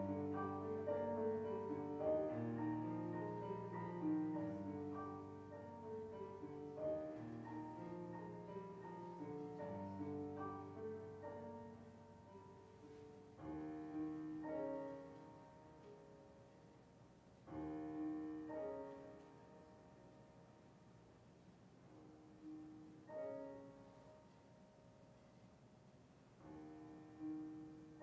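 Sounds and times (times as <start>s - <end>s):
slow piano music: 0.0s - 28.0s.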